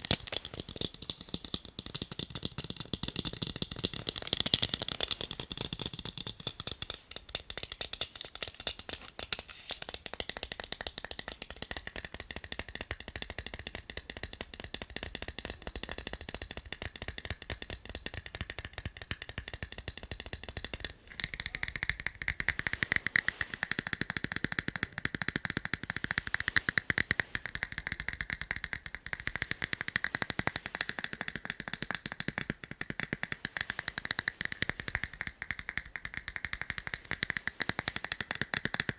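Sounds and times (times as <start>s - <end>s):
tapping on eyeglasses: 0.0s - 38.9s.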